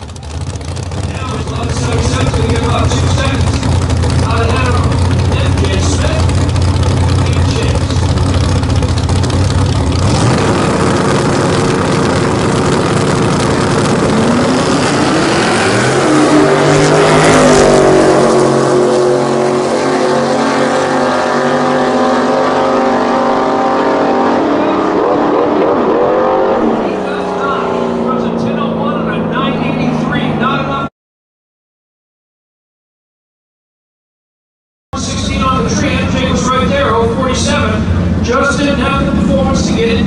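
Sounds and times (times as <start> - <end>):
engines rumbling at idle: 0.0 - 30.9, 35.0 - 40.0
pickup trucks accelerating hard: 0.0 - 30.9, 35.0 - 40.0.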